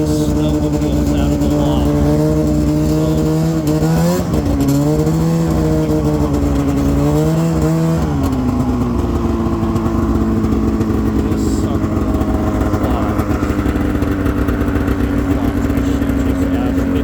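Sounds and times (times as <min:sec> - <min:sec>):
snowmobile engine idling: 0:00.0 - 0:17.0.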